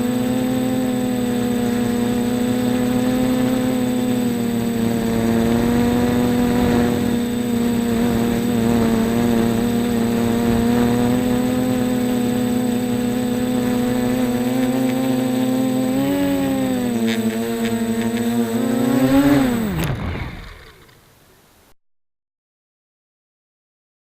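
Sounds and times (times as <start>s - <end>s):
quadcopter motors humming: 0.0s - 21.0s.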